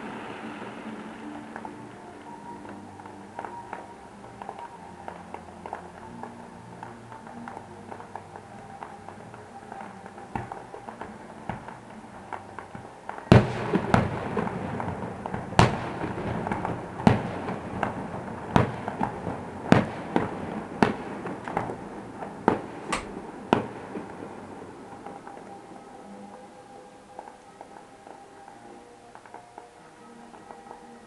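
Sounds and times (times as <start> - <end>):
fireworks bangs: 0.0 - 30.8
distant fireworks crackling: 0.0 - 31.0.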